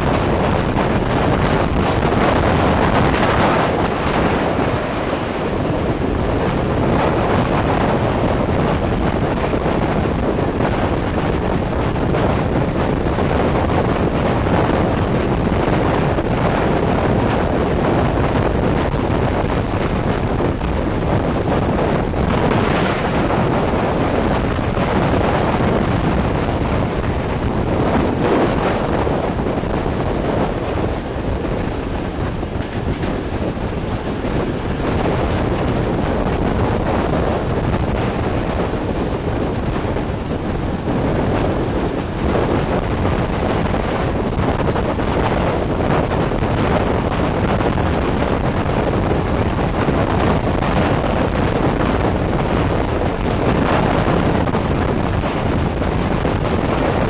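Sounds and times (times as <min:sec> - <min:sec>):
train running on track: 0:00.0 - 0:57.0
wind rushing over microphone: 0:00.0 - 0:57.0.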